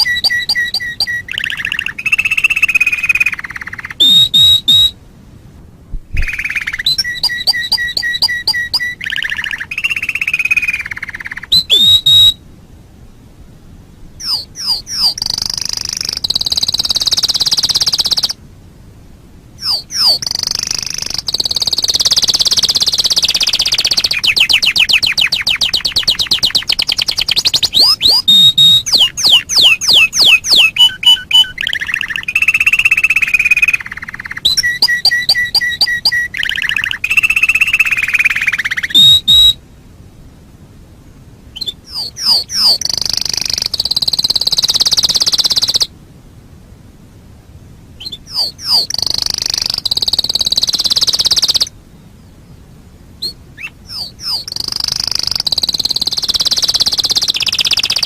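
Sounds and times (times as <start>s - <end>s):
canary singing: 0.0s - 5.0s, 6.2s - 12.4s, 14.2s - 18.4s, 19.6s - 39.6s, 41.5s - 45.9s, 48.0s - 51.7s, 53.2s - 58.0s.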